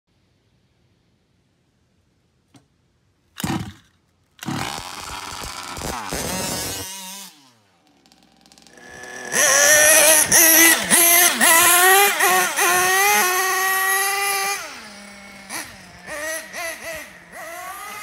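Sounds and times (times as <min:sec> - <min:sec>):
two-stroke engine revving: 0:03.4 - 0:18.0.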